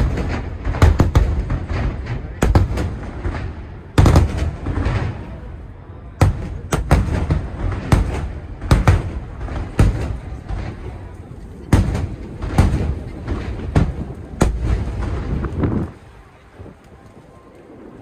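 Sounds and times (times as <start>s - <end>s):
fireworks bursting with bangs: 0.0s - 16.2s
low rumbling echo: 0.0s - 16.2s.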